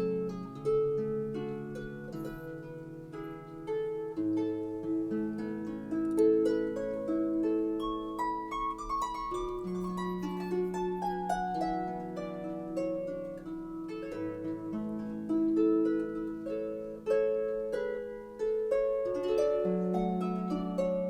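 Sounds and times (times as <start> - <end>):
solo harp melody: 0.0 - 21.0.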